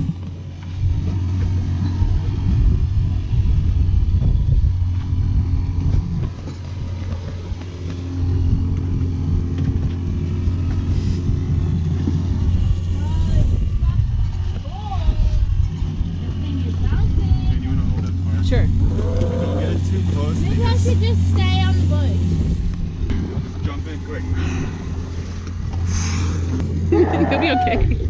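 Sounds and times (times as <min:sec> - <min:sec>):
small outboard motor idling: 0:00.0 - 0:28.0
wind buffeting microphone: 0:00.0 - 0:28.0.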